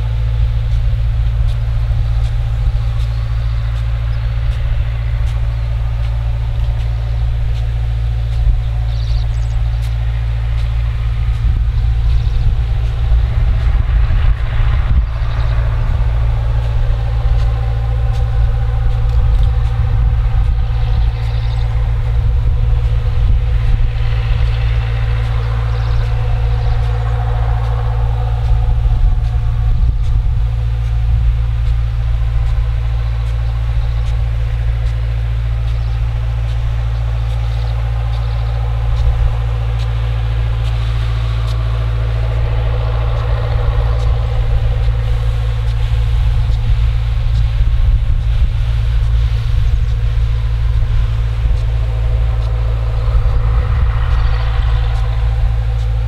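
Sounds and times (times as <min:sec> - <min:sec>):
distant diesel engine drone: 0:00.0 - 0:56.0
faint steady hum: 0:00.0 - 0:56.0.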